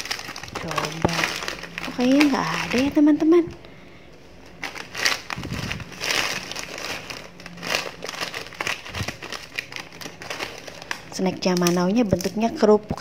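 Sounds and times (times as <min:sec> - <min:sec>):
crackers rustling in bag: 0:00.0 - 0:03.4, 0:04.5 - 0:12.6
plastic snack bag crinkling: 0:00.0 - 0:03.6, 0:04.5 - 0:12.6.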